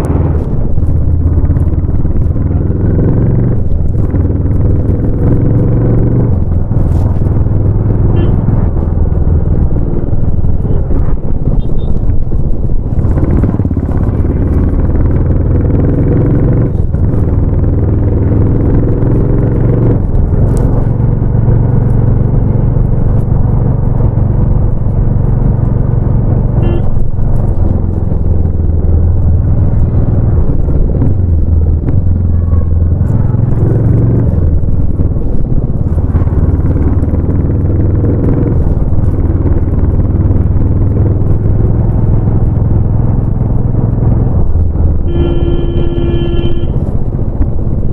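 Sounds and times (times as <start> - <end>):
motorcycle exhaust while riding: 0.0 - 47.9.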